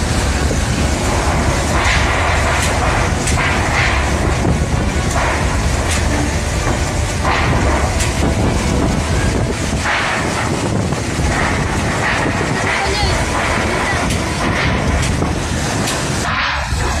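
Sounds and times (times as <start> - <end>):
strong wind gusts: 0.0 - 17.0
wind buffeting microphone: 0.0 - 17.0.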